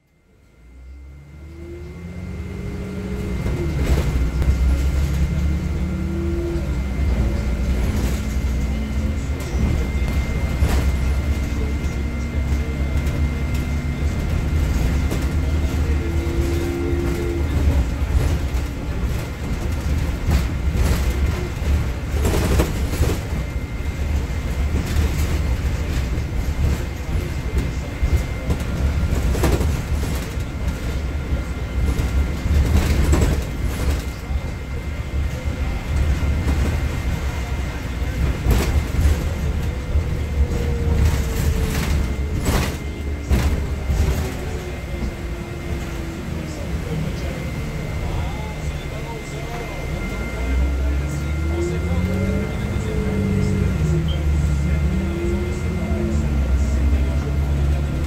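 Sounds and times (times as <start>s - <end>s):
faint high whine: 0.0s - 57.9s
bus engine and road rumble: 0.0s - 58.0s.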